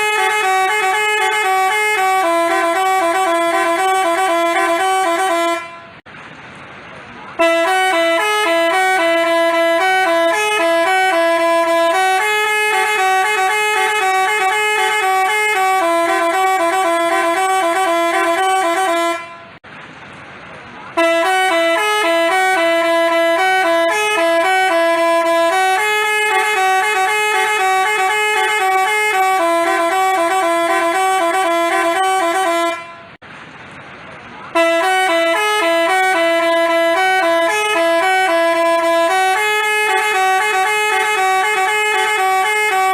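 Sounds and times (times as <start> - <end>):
multi-tone musical horn melody: 0.0 - 6.0, 7.4 - 19.6, 21.0 - 33.2, 34.5 - 42.9.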